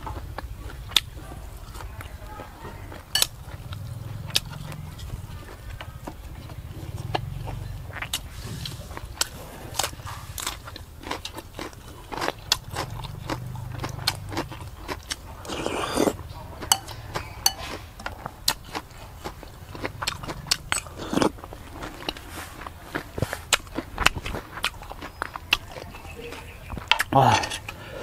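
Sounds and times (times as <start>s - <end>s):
chewing crisp raw vegetables: 0.0s - 28.0s.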